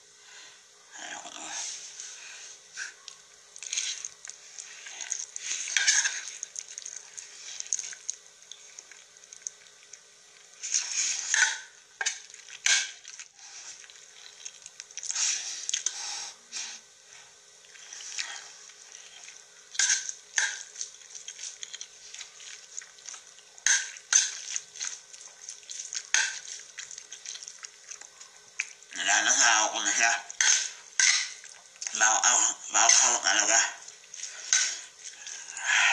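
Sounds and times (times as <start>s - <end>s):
noodles being slurped: 3.6s - 16.7s, 17.6s - 32.0s, 33.0s - 35.9s.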